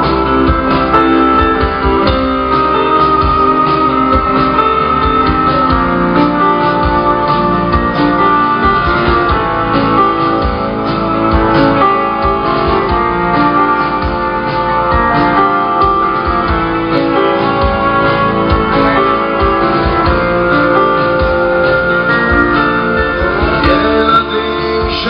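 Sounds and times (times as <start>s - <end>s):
guitar: 0.0s - 25.0s
keyboard chords: 0.0s - 25.0s.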